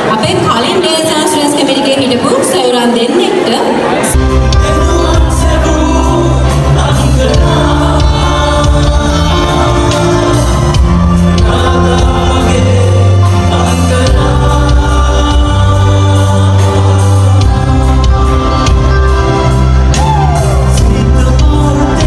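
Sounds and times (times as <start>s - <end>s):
live band playing: 0.0s - 22.0s
deep bass line: 4.1s - 22.0s
person singing: 4.2s - 22.0s.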